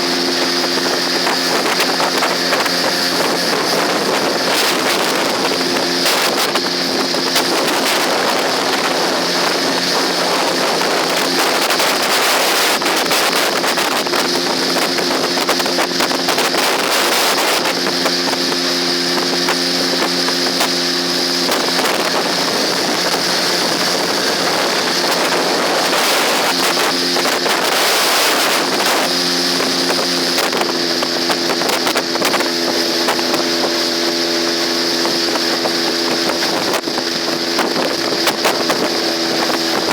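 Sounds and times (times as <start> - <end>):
outboard motor running: 0.0 - 39.9
water rushing: 0.0 - 39.9
wind buffeting microphone: 0.0 - 39.9.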